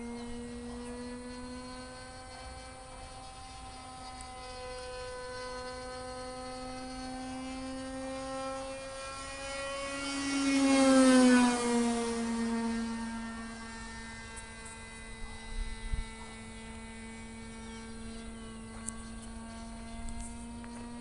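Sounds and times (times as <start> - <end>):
model airplane engine drone: 0.0 - 21.0.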